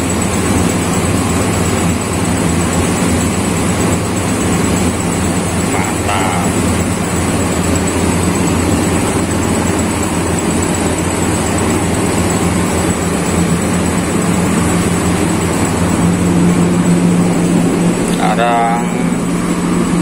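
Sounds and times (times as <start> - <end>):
compressor low hum: 0.0 - 20.0
fan rushing noise: 0.0 - 20.0.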